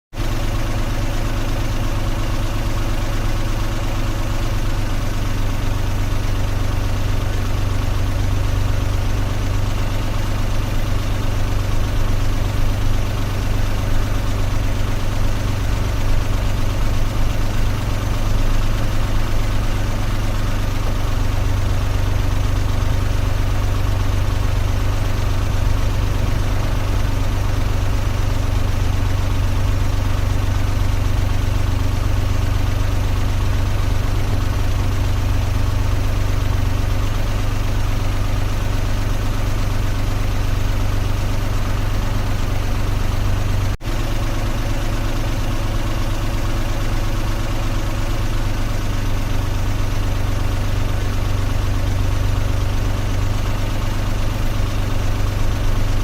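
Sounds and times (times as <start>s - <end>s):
car engine idling: 0.1s - 56.0s.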